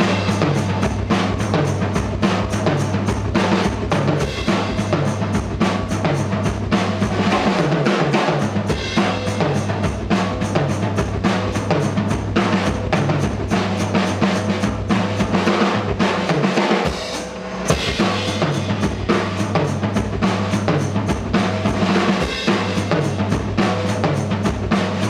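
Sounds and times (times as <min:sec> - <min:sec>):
bass drum and snare beat: 0:00.0 - 0:25.0
rock band playing: 0:00.0 - 0:25.0.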